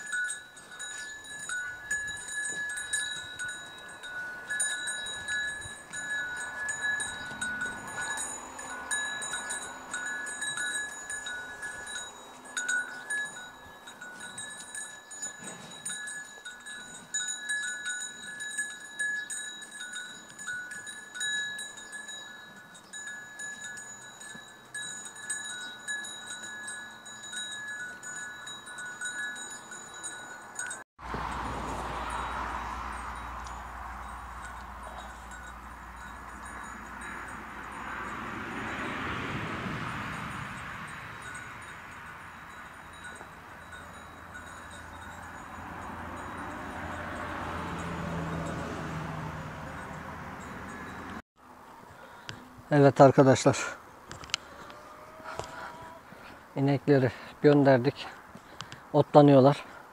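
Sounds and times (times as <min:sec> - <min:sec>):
livestock bells ringing: 0:00.0 - 0:51.2, 0:52.0 - 0:59.9.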